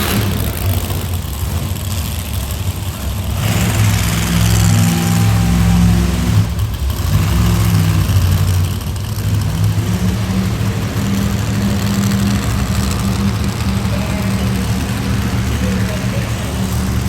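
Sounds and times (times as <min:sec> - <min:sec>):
large engine revving near idle: 0:00.0 - 0:17.0.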